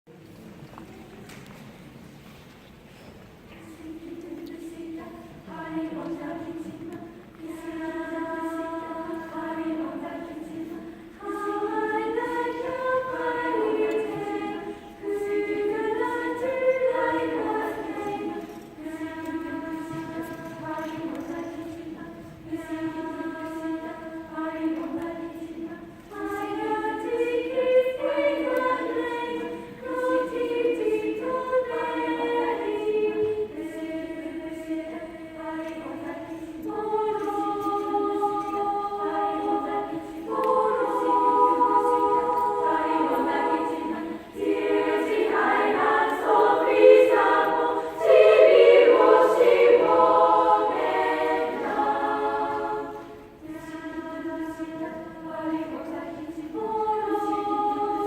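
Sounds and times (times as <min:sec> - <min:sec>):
children's choir singing: 0:03.4 - 0:58.0.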